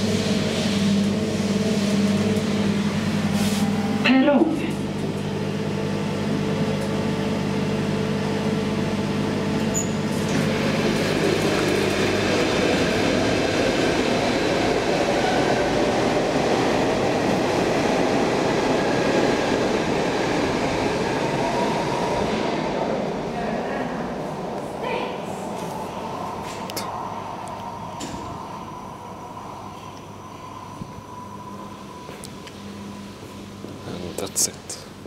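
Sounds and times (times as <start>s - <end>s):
metro train rail noise: 0.0s - 35.0s.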